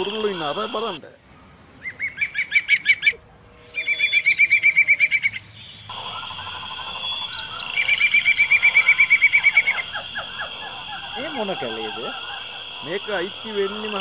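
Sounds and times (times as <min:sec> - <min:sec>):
bird chirps and calls: 0:01.8 - 0:14.0
songbird fast high trills: 0:01.8 - 0:14.0.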